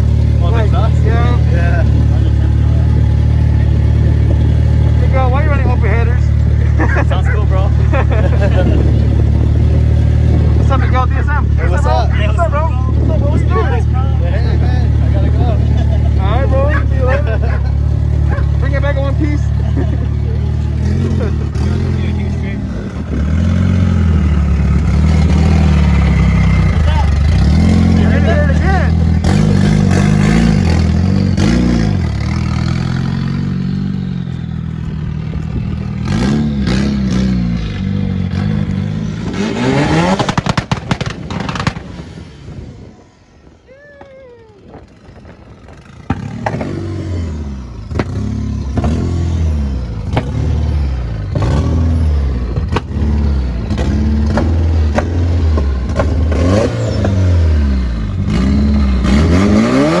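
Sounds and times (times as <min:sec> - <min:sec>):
car engine revving: 0:00.0 - 0:43.6, 0:44.7 - 1:00.0
exhaust cracks: 0:00.0 - 1:00.0.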